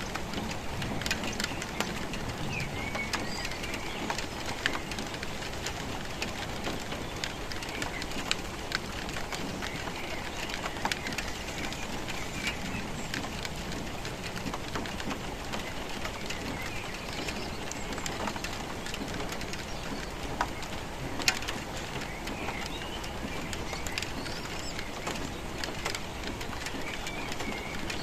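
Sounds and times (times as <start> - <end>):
drops ticking on a surface: 0.0 - 28.0
steady rainfall: 0.0 - 28.0.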